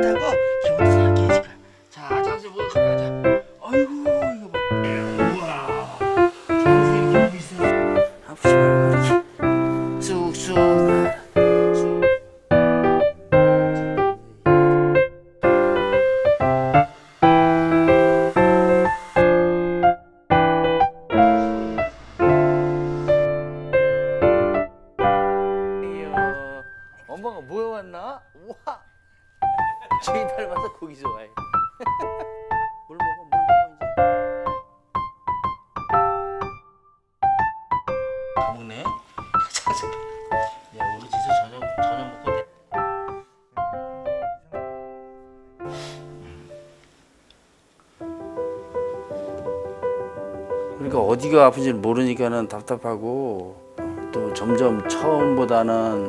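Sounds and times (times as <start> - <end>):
slow piano chords: 0.0 - 46.9, 47.9 - 56.0.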